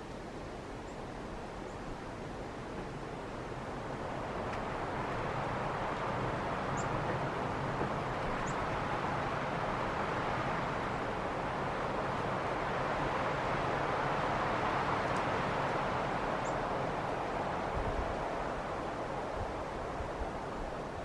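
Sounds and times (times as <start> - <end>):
rushing outdoor ambience: 0.0 - 21.0.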